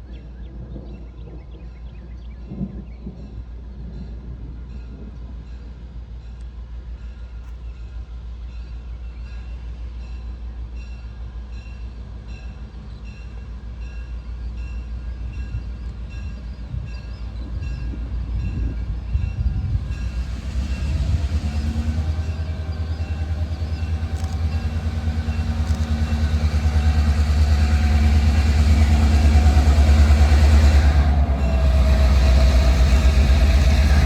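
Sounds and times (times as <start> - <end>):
diesel locomotive engine rumbling: 0.1 - 34.0.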